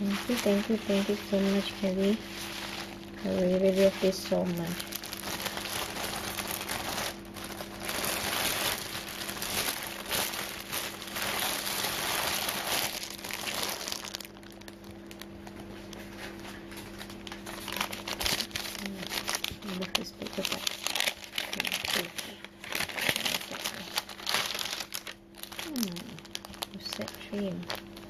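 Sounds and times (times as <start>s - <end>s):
packaging crinkling and rustling: 0.0s - 28.0s.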